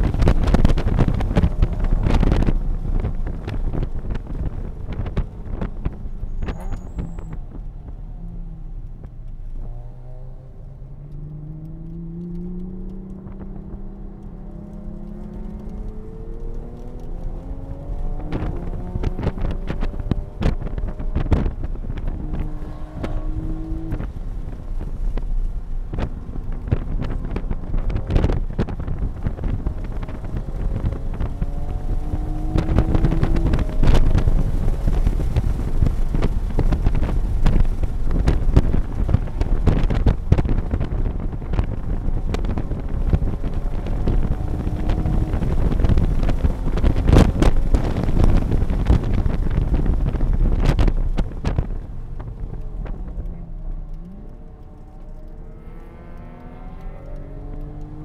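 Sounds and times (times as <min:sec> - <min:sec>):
wind rush: 0:00.0 - 0:07.9, 0:11.7 - 0:55.6
car engine accelerating: 0:00.0 - 0:58.0.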